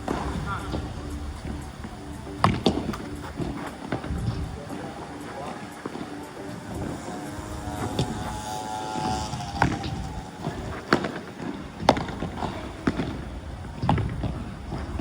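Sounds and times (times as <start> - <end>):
wind rumble on microphone: 0.0 - 5.2, 6.4 - 15.0
ball struck with rackets: 0.0 - 13.2.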